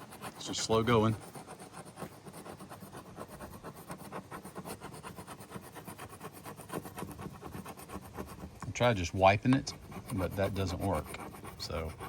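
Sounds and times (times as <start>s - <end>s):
plastic tool scraping fiberglass: 0.0s - 12.0s.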